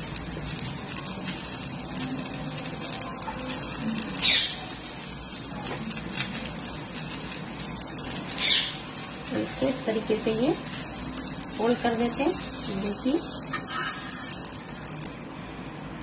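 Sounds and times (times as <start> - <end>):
pancake sizzling on a griddle: 0.0 - 16.0.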